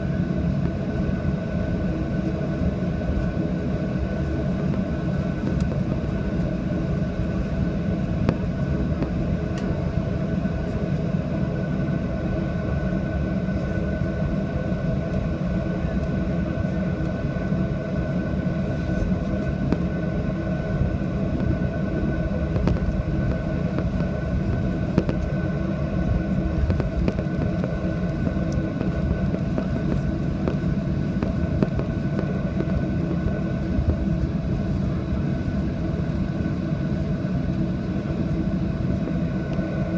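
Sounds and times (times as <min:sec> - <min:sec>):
faint steady tones: 0:00.0 - 0:39.9
jet engines and airflow rumble: 0:00.0 - 0:39.9.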